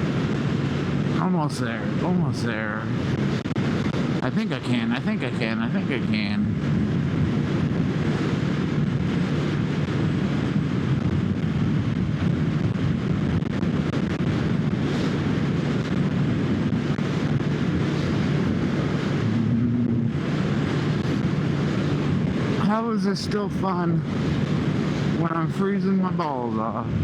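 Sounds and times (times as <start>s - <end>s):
wind rush on microphone: 0.0s - 27.0s.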